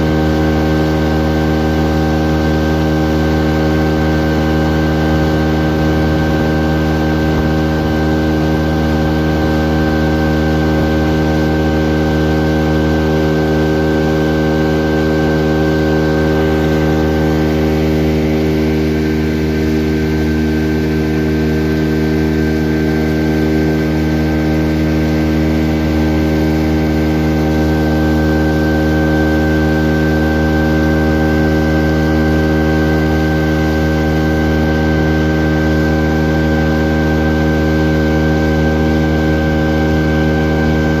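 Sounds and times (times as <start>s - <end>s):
boat motor humming: 0.0s - 41.0s.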